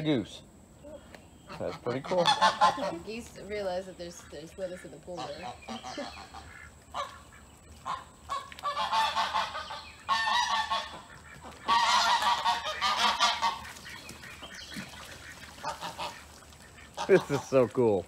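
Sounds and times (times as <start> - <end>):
geese honking: 1.4 - 18.0.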